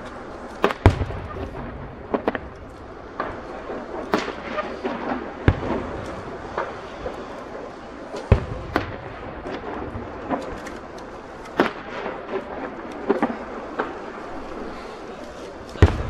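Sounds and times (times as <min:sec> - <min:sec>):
background hiss: 0:00.0 - 0:16.0
fireworks bangs: 0:00.0 - 0:16.0.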